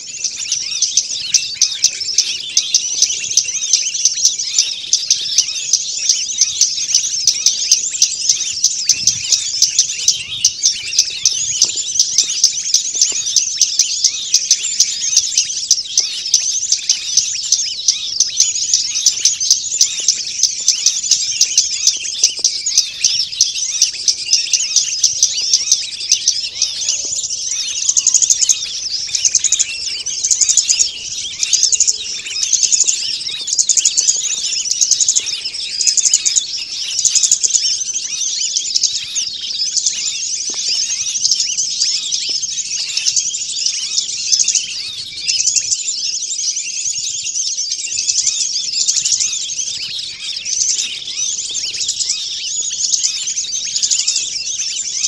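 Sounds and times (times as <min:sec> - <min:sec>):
small birds chirping and ticking: 0:00.0 - 0:55.0.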